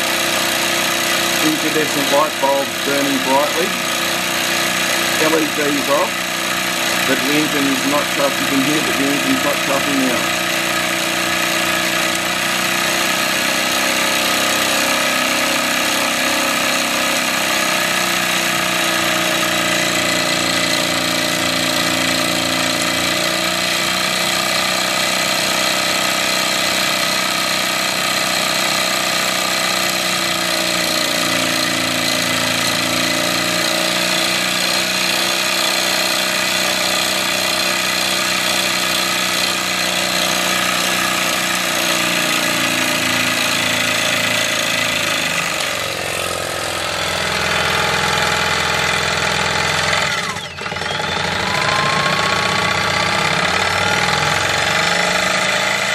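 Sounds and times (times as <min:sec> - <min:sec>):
generator whine: 0:00.0 - 0:55.9
model steam engine running: 0:00.0 - 0:55.9.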